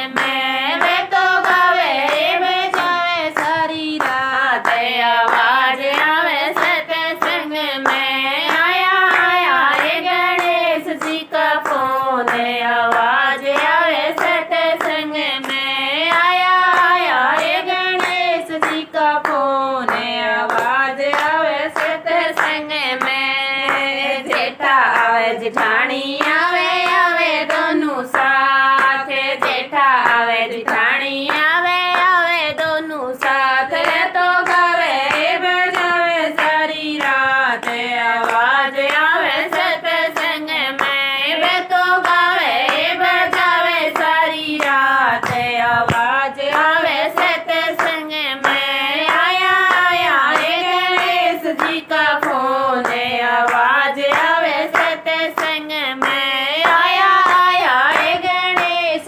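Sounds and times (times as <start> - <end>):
hand-claps: 0.0 - 59.0
person singing devotional song: 0.0 - 59.0.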